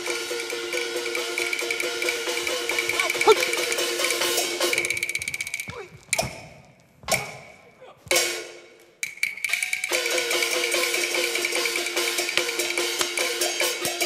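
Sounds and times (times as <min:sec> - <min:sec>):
wood-block and gong strokes: 0:00.0 - 0:06.3, 0:08.1 - 0:14.0.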